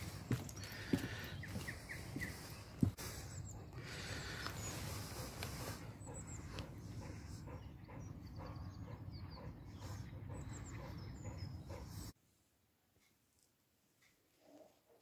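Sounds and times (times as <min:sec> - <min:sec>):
dogs panting: 0:00.0 - 0:12.2
small birds chirping: 0:00.0 - 0:12.2.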